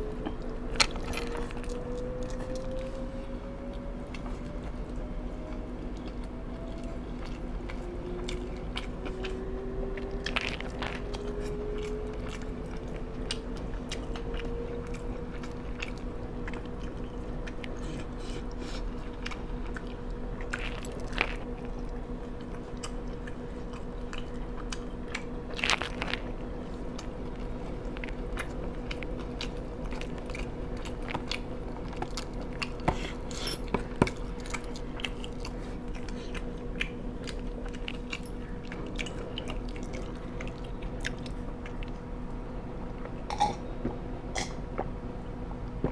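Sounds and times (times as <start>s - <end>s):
chewing and crunching: 0.0s - 43.8s
constant low hum: 0.0s - 45.9s.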